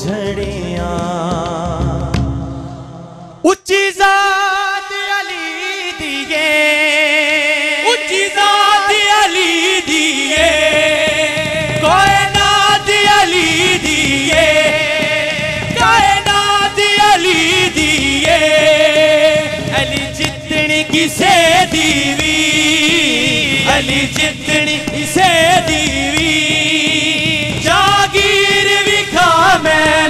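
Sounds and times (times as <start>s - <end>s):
drums steady beat: 0.0s - 3.0s, 8.1s - 30.0s.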